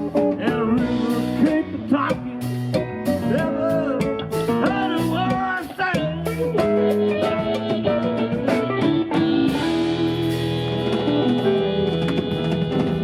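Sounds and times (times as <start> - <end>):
bass and drums: 0.0 - 13.0
electric guitar: 0.0 - 13.0.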